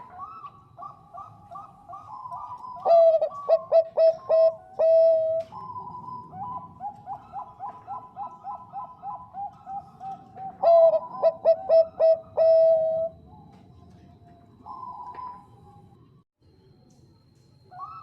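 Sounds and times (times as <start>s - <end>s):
dove cooing: 0.0s - 15.8s, 17.7s - 18.0s.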